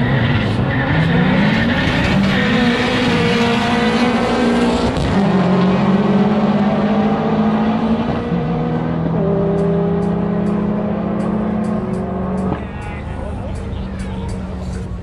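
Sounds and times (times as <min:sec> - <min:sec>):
car engine revving high: 0:00.0 - 0:12.8.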